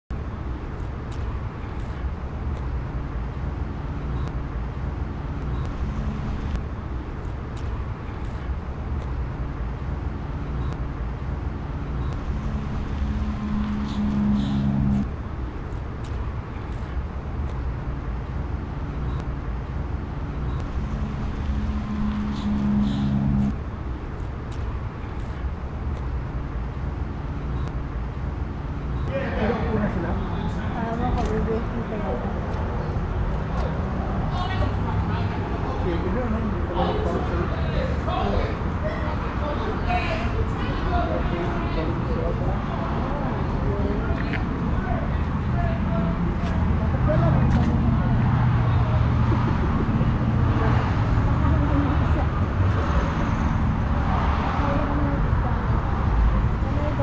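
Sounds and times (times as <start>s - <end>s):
engine hum: 0.1s - 57.0s
road traffic rumble: 0.1s - 57.0s.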